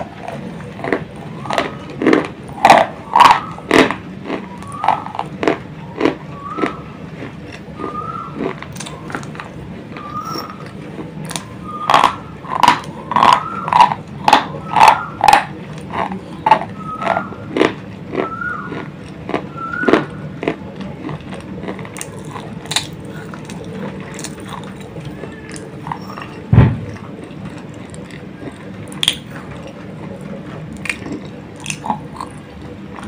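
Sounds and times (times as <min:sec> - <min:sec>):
chalky pencils crunching in mouth: 0:00.0 - 0:33.0.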